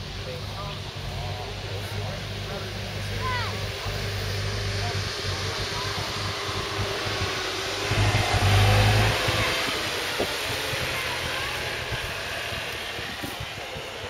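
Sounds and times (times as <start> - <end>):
car engine driving away: 0.0 - 14.0.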